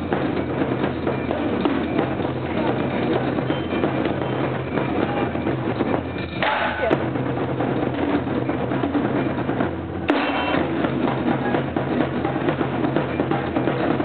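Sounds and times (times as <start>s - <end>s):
taiko drums beaten fast: 0.0s - 14.0s.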